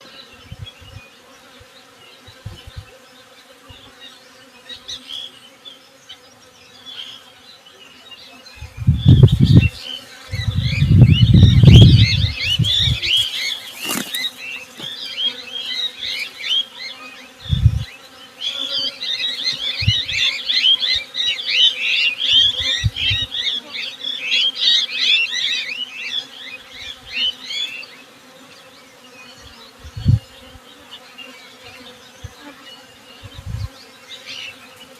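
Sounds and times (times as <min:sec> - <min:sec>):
bees buzzing: 0:00.0 - 0:34.9
small birds chirping: 0:00.0 - 0:34.9.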